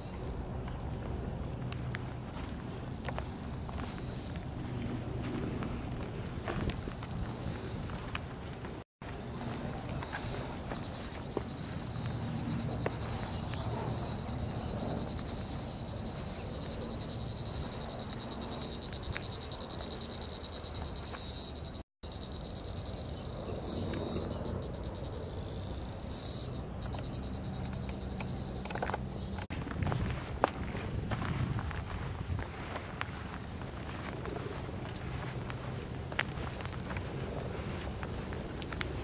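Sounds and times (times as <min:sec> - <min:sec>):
cicadas buzzing: 0:00.0 - 0:00.5, 0:01.4 - 0:08.5, 0:09.1 - 0:39.0.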